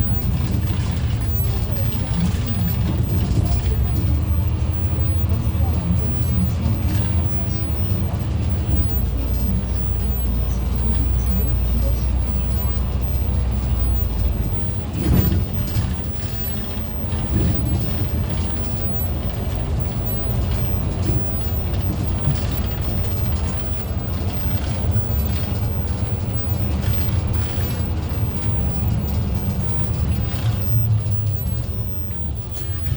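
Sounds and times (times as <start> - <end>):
bus engine and road rumble: 0.0 - 32.9.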